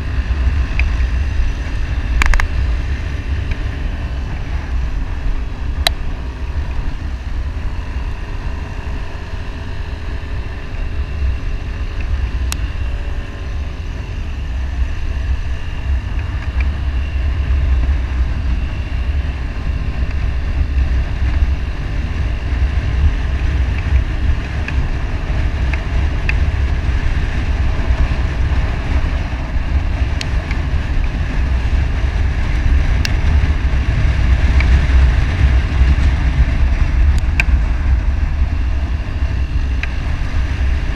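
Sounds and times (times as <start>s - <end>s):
motorcycle engine hum: 0.0s - 40.9s
wind buffeting microphone: 0.0s - 40.9s.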